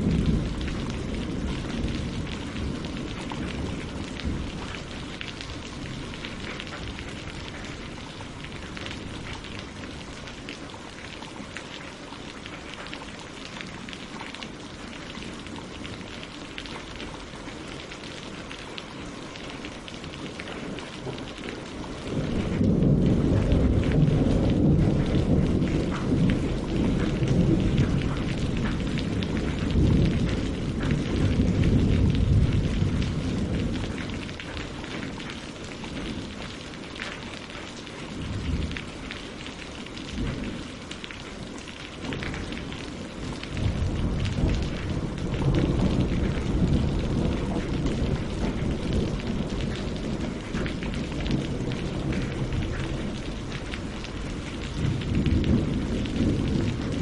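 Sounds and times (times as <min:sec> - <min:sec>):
thunder rumbling: 0:00.0 - 0:11.4, 0:19.7 - 0:37.4, 0:38.0 - 0:57.0
rain on leaves and water: 0:00.0 - 0:57.0.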